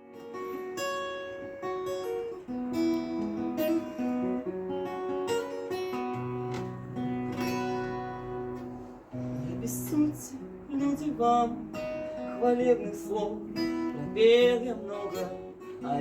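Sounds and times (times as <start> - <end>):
acoustic guitar melody: 0.0 - 16.0.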